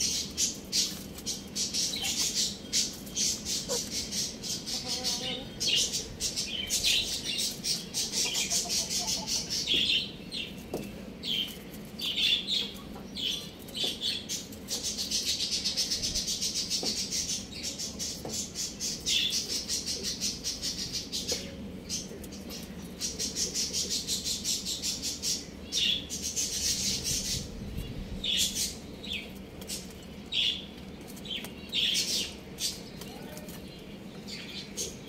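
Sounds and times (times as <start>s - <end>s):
chicks peeping and chirping: 0.0s - 35.0s.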